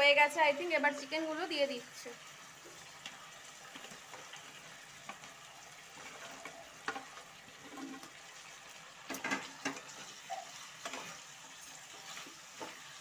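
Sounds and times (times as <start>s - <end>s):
sauce sizzling in a wok: 0.0s - 13.0s.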